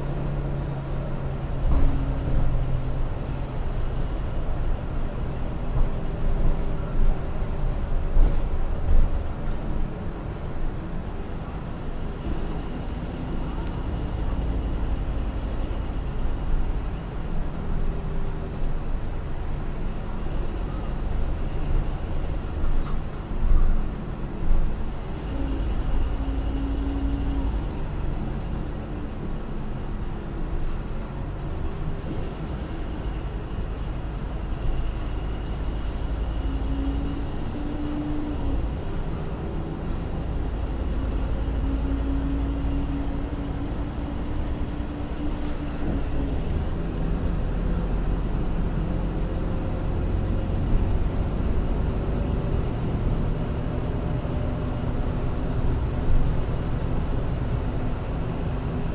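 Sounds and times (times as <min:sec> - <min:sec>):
bus engine rumbling: 0:00.0 - 0:58.9.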